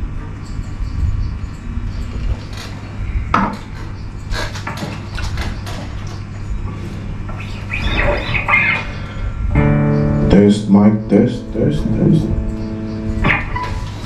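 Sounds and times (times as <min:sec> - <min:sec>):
low amplifier hum: 0:00.0 - 0:14.0.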